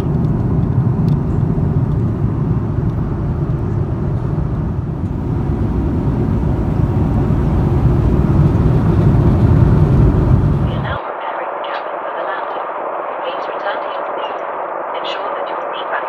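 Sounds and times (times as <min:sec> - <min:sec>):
airplane cabin engine rush: 0:00.0 - 0:16.0.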